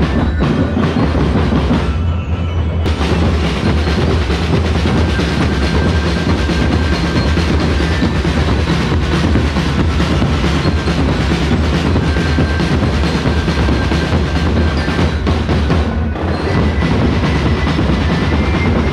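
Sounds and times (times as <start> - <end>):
drum band playing: 0.0 - 18.9.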